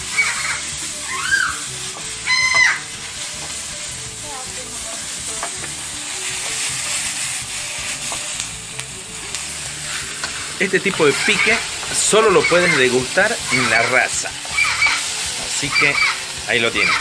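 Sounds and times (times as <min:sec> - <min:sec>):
food sizzling in a hot pan: 0:00.0 - 0:17.0.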